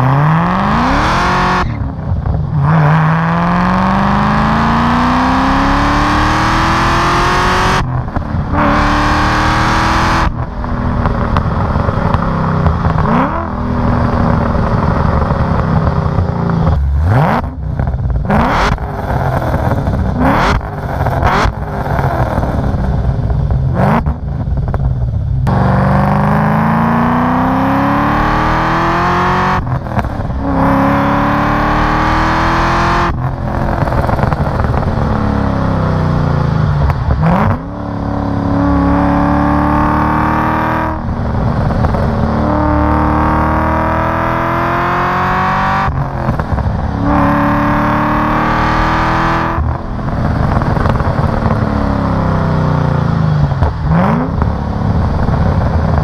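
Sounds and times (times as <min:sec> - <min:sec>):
car engine revving loudly: 0:00.0 - 0:24.8, 0:25.4 - 0:56.0.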